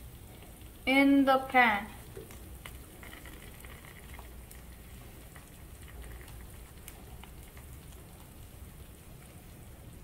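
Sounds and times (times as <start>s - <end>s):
small crackles and pops: 0.0s - 10.0s.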